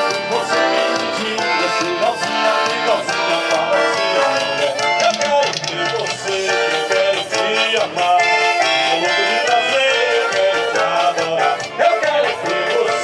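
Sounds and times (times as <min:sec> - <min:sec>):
accordion band music: 0:00.0 - 0:13.0.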